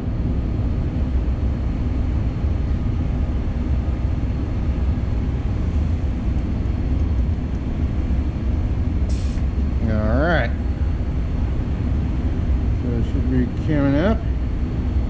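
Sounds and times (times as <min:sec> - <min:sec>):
vacuum pump droning: 0:00.0 - 0:15.0.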